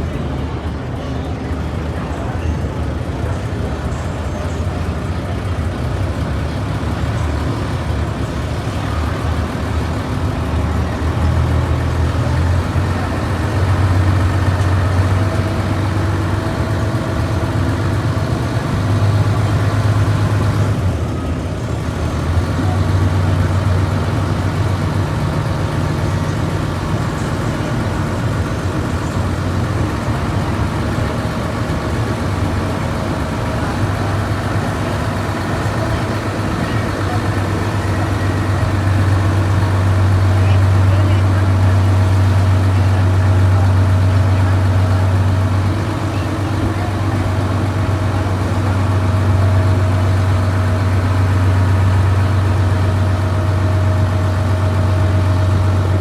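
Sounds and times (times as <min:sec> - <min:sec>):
ferry engine droning: 0:00.0 - 0:56.0.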